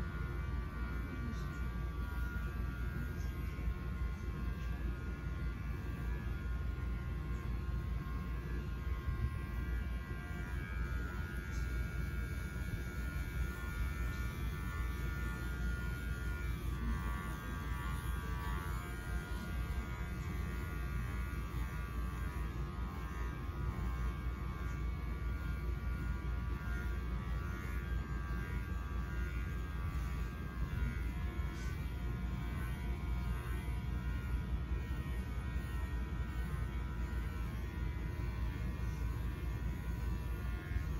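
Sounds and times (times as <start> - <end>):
electric clippers humming: 0.0 - 40.9.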